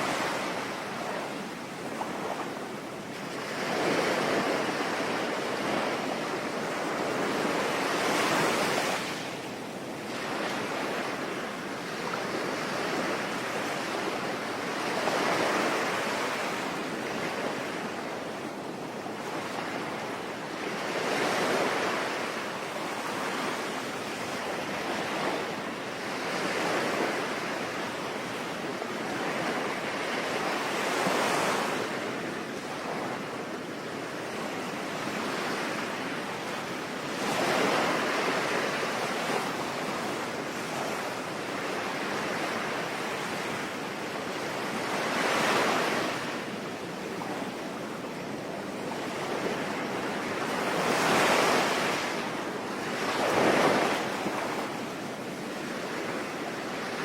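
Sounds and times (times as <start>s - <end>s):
sea waves washing ashore: 0.0s - 57.0s.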